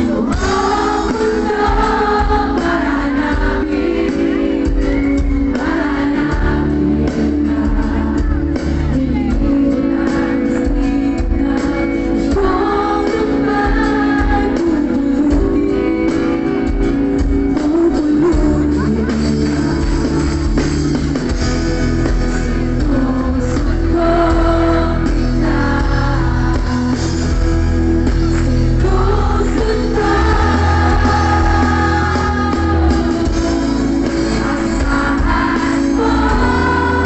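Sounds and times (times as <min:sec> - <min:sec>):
person singing: 0:00.0 - 0:20.7, 0:22.6 - 0:27.4, 0:28.2 - 0:37.0
guitar: 0:00.0 - 0:37.0
live pop band playing: 0:00.0 - 0:37.0.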